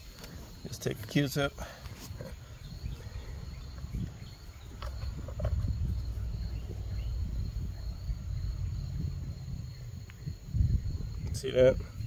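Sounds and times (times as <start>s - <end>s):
high insect trill: 0.0s - 12.0s
wind buffeting microphone: 2.1s - 12.0s.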